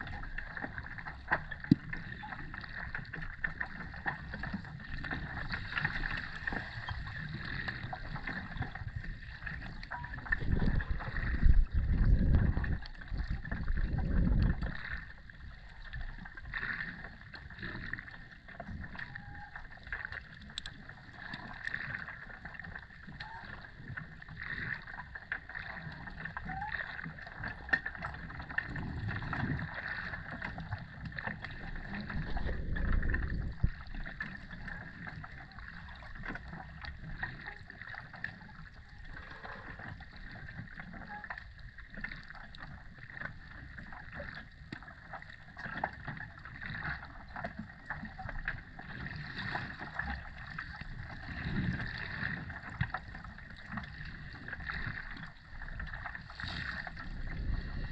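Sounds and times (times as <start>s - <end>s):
deep water swells: 0.0s - 57.9s
muffled underwater rush: 0.0s - 57.9s
underwater clicks and crackles: 0.0s - 57.9s.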